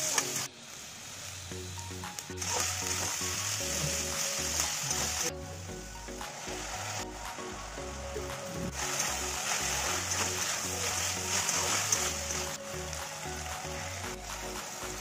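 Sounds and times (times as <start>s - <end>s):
vegetables sizzling in a wok: 0.0s - 15.0s
music with a steady beat: 1.5s - 15.0s.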